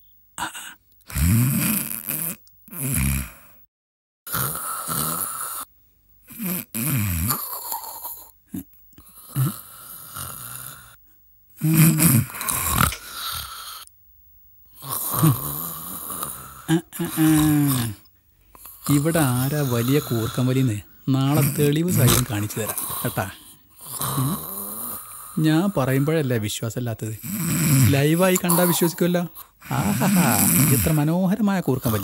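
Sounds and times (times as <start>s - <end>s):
man snoring: 0.4s - 3.6s, 4.3s - 5.7s, 6.3s - 11.0s, 11.6s - 13.9s, 14.8s - 18.0s, 18.6s - 26.2s, 27.2s - 32.0s.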